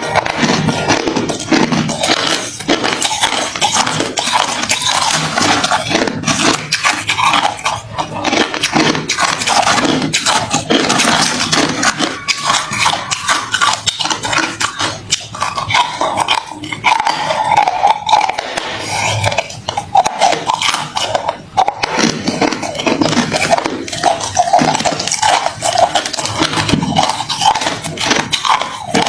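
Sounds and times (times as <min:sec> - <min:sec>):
chewing crushed ice: 0:00.0 - 0:29.0.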